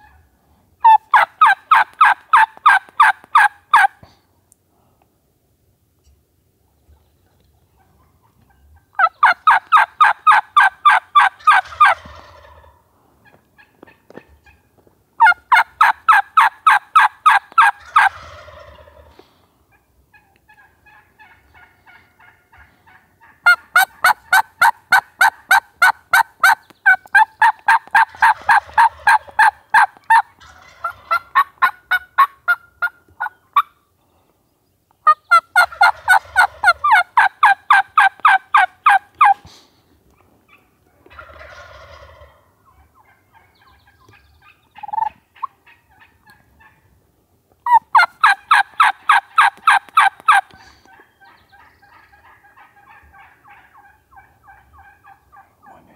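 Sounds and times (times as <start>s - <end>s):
turkey calling: 0.0s - 4.0s, 7.8s - 33.9s, 35.0s - 46.9s, 47.6s - 55.9s.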